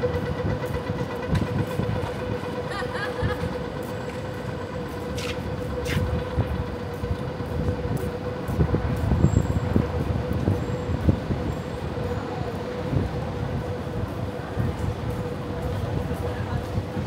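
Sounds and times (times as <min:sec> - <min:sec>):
electric train humming: 0:00.0 - 0:17.0.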